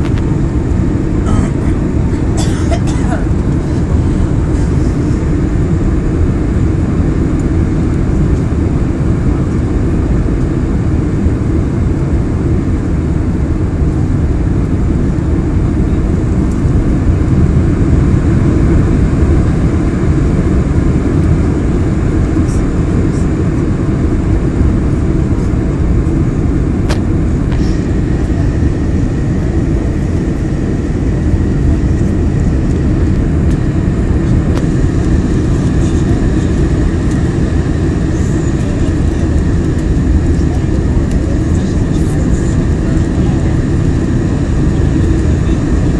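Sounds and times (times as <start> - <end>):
jet airliner cabin noise: 0.0 - 45.9.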